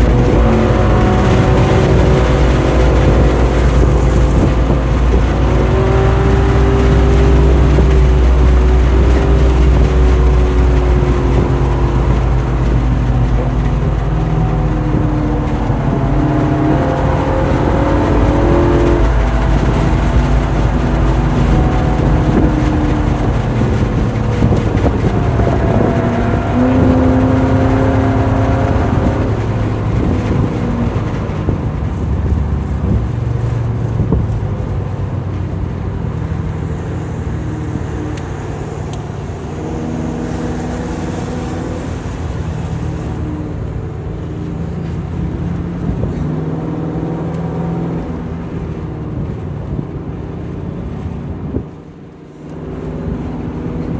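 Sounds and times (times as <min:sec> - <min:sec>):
car engine pulling hard: 0:00.0 - 0:53.9
road and wind noise: 0:00.0 - 0:53.9.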